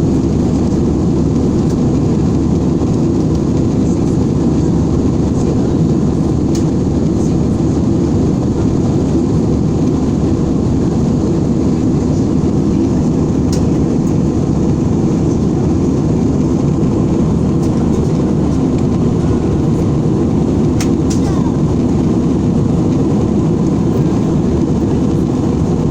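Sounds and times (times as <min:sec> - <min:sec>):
airliner cabin engine rush: 0:00.0 - 0:25.9.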